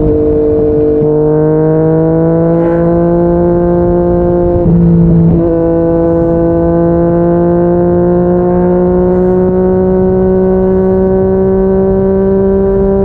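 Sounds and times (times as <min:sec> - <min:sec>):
low wind rumble: 0:00.0 - 0:13.0
motorcycle engine accelerating: 0:00.0 - 0:13.0.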